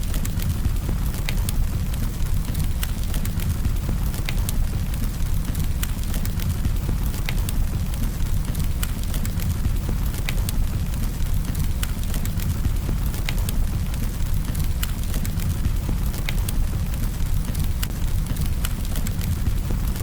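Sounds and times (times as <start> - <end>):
flames rumbling: 0.0 - 20.0
wood crackling and popping: 0.0 - 20.0.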